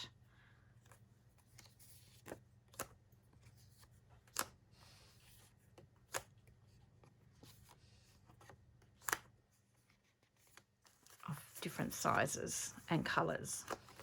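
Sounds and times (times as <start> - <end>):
faint paper rustling: 0.7 - 14.0.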